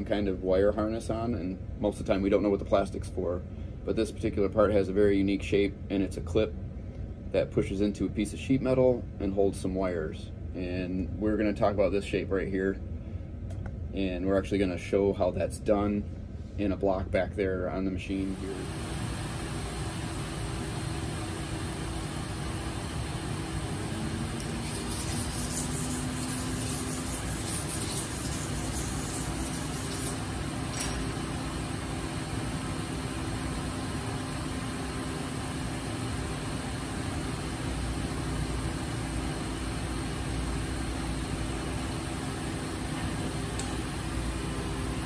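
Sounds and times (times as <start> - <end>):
machine shop drone with hum: 0.0 - 45.0.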